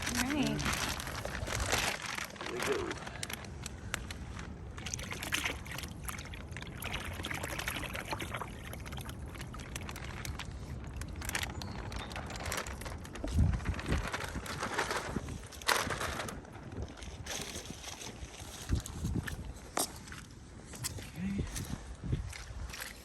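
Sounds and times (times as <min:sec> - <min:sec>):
water pouring and splashing: 0:00.0 - 0:20.2
wind rumble on microphone: 0:00.0 - 0:23.0.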